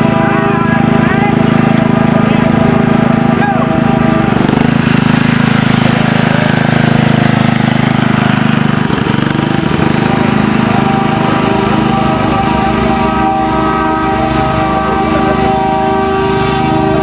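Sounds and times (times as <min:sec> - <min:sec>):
riding lawn mower engine running: 0:00.0 - 0:17.0.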